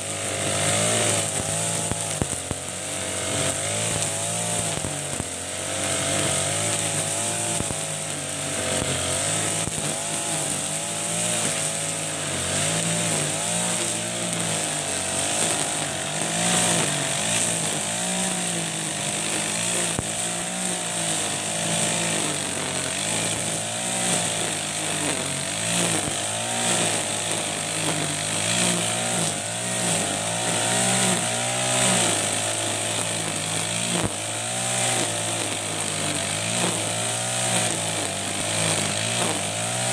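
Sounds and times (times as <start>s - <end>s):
brush cutter engine running: 0.0s - 39.9s
nylon line cutting grass: 0.0s - 39.9s.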